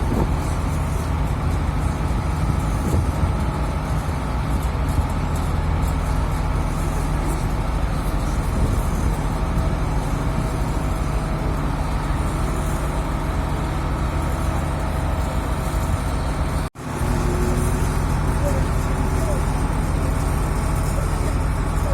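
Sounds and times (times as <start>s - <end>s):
boat diesel engine rumbling: 0.0s - 21.9s.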